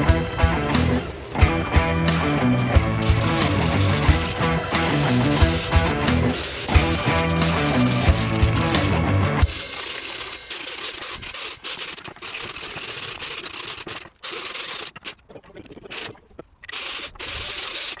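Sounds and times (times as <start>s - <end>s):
wire brush scouring metal: 3.0s - 18.0s.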